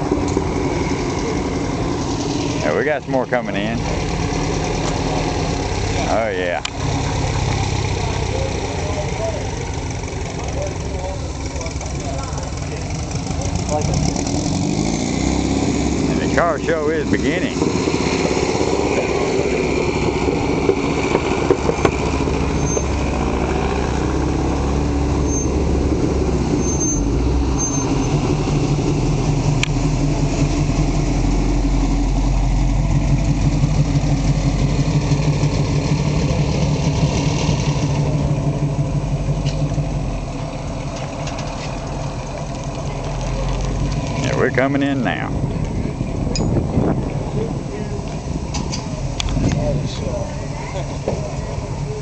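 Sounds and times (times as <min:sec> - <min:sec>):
cars driving slowly: 0:00.0 - 0:52.0
pickup truck engine running: 0:00.0 - 0:52.0.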